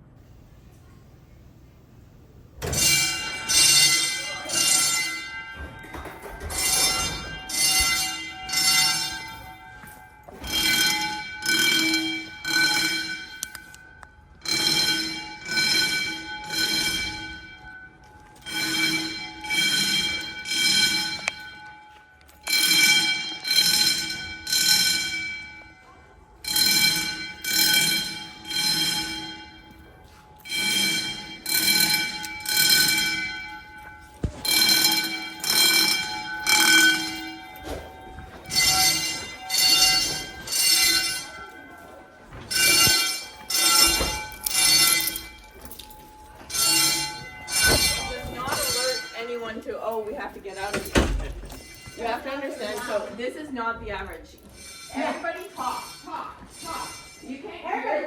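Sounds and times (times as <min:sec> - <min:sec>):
fire alarm bells ringing: 0:02.6 - 0:58.0.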